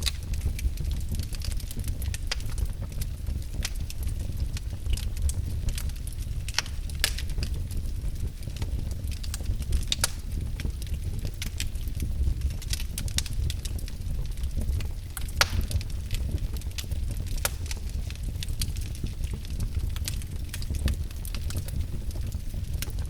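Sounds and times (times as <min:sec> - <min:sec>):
fire low rumble: 0:00.0 - 0:23.0
fireplace fire crackling and popping: 0:00.0 - 0:23.0.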